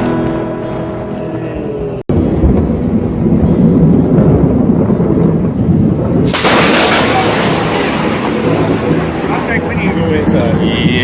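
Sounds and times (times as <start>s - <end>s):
loud low rumbling: 0.0s - 11.0s
sudden loud crash: 2.1s - 11.0s.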